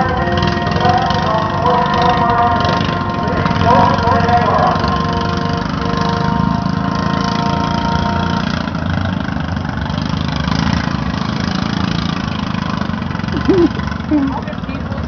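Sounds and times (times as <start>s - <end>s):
lawn mower engines running: 0.0s - 15.0s.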